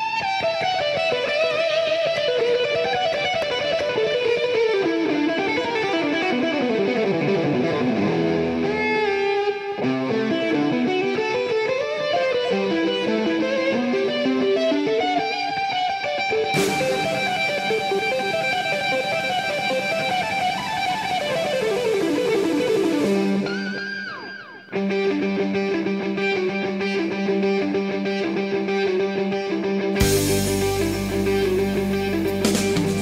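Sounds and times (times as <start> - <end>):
guitar playing fast runs: 0.0 - 33.0.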